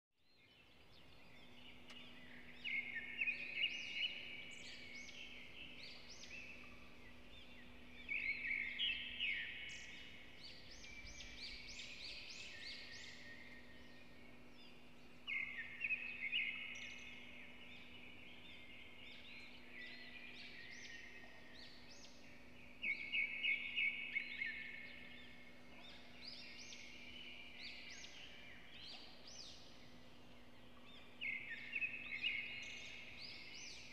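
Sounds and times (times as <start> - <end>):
bird chirping: 0.2 - 33.9.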